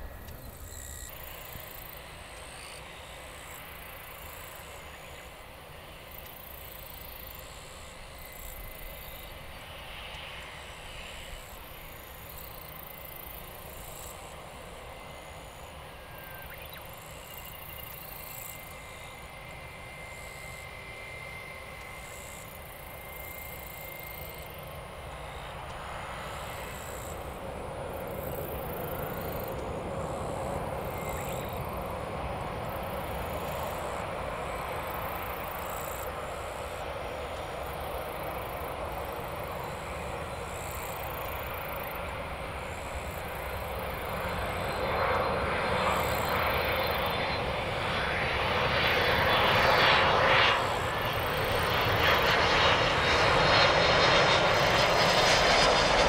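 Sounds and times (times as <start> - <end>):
distant jet engine rumble: 0.0 - 56.0.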